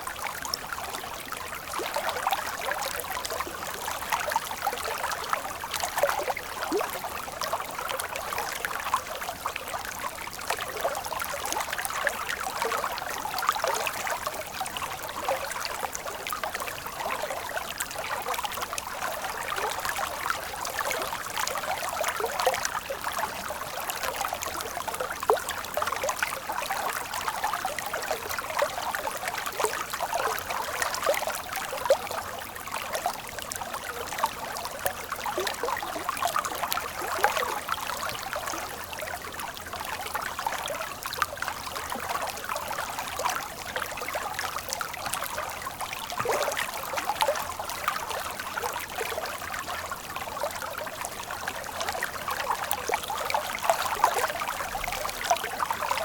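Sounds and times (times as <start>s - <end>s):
stream water flowing over rocks: 0.6s - 56.0s.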